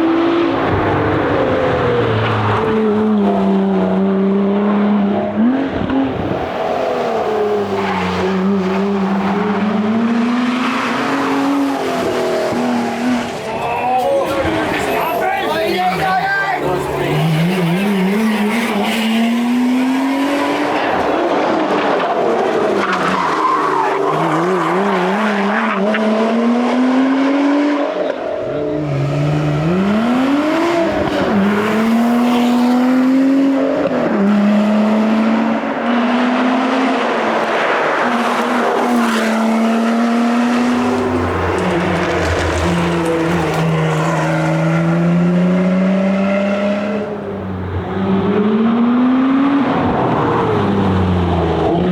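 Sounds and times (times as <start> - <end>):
car engine revving through gears: 0.0 - 13.4, 16.6 - 51.9
engine blips on downshifts: 0.0 - 13.5, 16.6 - 51.9.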